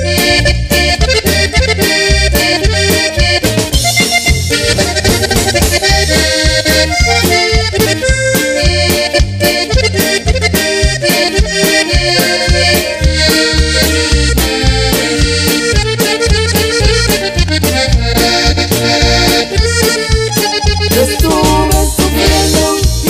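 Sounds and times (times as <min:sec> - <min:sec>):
accordion band music: 0:00.0 - 0:23.0.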